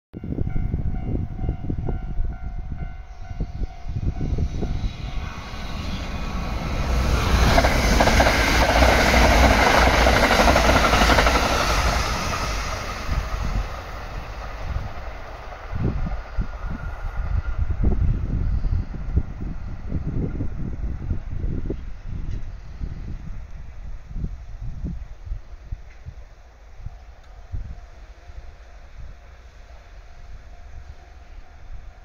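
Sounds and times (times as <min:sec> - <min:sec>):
wind buffeting microphone: 0:00.1 - 0:32.0
electric train passing at speed: 0:00.2 - 0:32.0.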